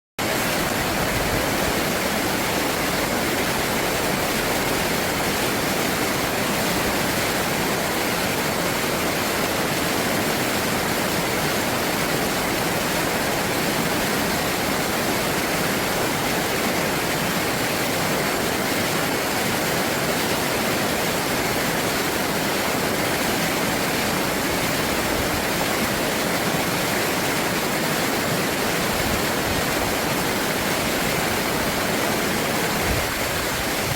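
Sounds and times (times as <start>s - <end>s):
stream water rushing: 0.2s - 33.9s.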